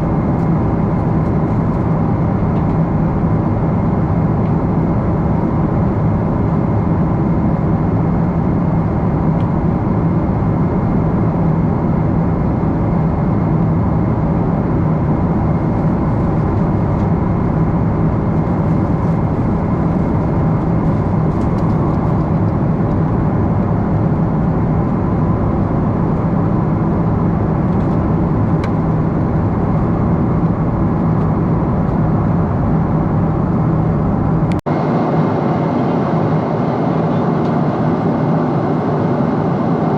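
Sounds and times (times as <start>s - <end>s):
airliner cabin engine rush: 0.0s - 39.9s
low constant hum: 0.0s - 39.9s.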